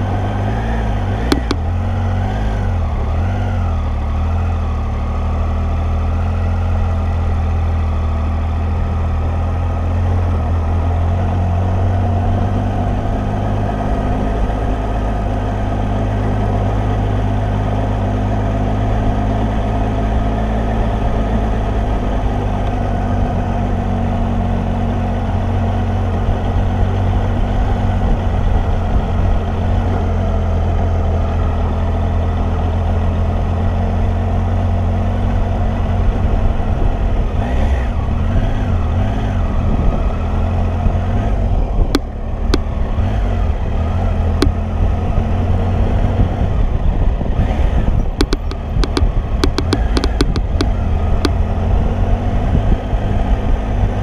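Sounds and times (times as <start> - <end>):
motorcycle engine running at low revs: 0.0 - 54.0.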